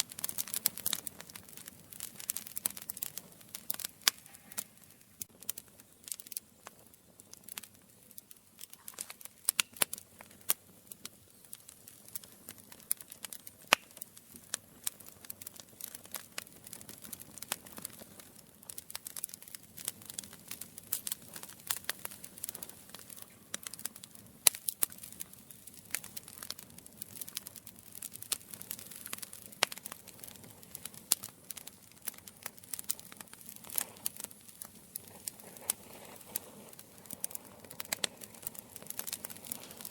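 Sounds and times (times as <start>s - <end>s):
campfire wood crackling and popping: 0.0s - 39.9s
soft hiss of flame: 0.0s - 39.9s.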